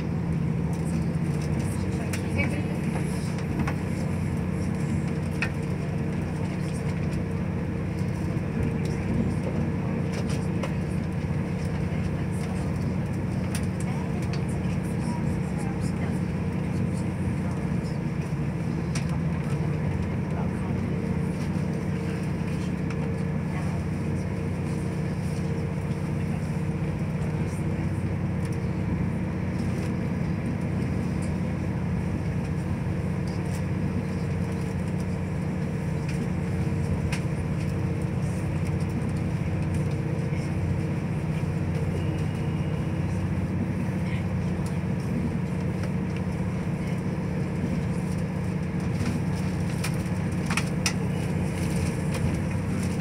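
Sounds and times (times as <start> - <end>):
constant hum: 0.0 - 53.0
train interior rumble: 0.0 - 53.0.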